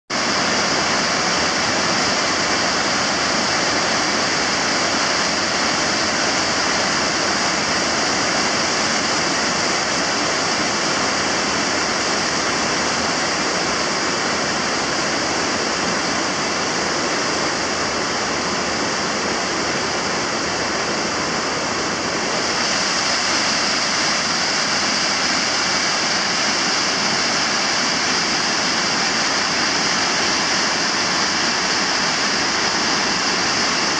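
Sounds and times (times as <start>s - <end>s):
floodwater rushing over a weir: 0.1s - 33.9s.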